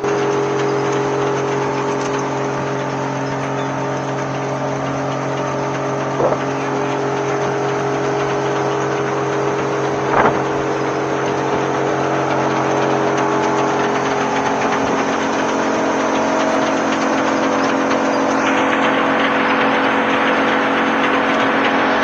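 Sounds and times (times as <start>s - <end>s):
wood chipper engine running: 0.0s - 22.0s.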